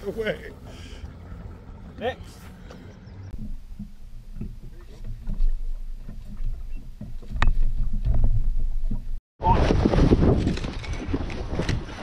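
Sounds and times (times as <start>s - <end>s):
wind rumbling on microphone: 1.0s - 12.0s.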